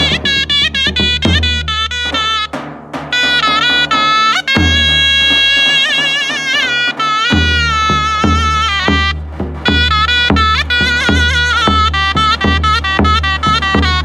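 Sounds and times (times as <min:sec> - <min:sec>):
deep drum beats: 0:00.0 - 0:14.0
zurna playing folk melody: 0:00.0 - 0:14.0.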